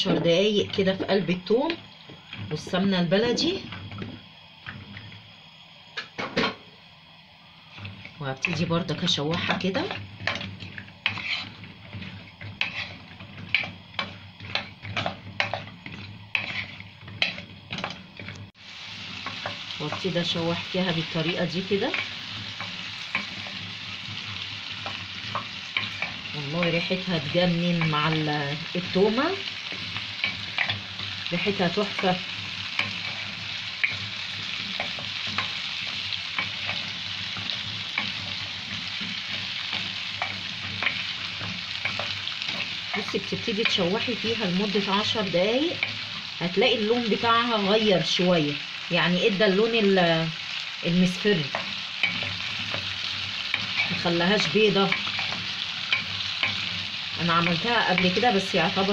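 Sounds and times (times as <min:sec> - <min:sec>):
potatoes scraping in frying pan: 0:07.6 - 0:58.9.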